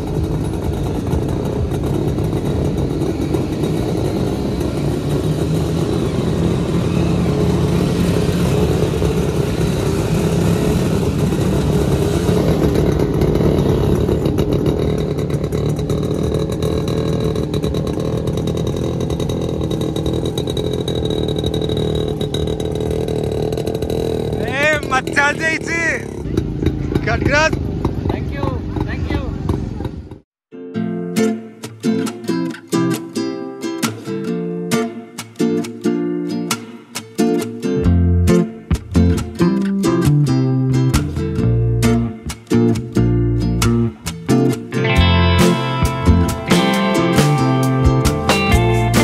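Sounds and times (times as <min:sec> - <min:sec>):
two-stroke motorcycle engine running: 0:00.0 - 0:30.2, 0:37.8 - 0:49.0.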